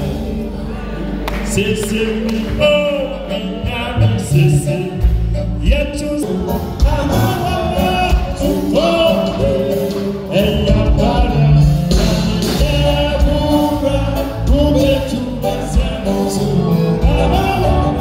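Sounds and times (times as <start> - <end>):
band with guitar and keyboard: 0.0 - 18.0
man singing into a microphone: 1.4 - 18.0.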